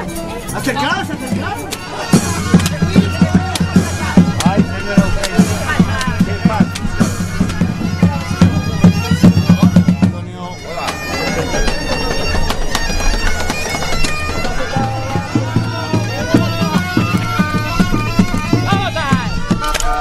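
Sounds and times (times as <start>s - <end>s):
bagpipe music: 0.0s - 20.0s
drum beat: 0.6s - 20.0s.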